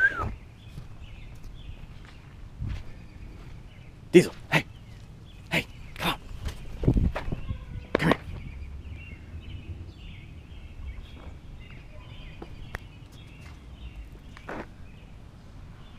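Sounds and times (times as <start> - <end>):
low outdoor rumble: 0.0 - 15.9
small birds chirping faintly: 0.1 - 15.9.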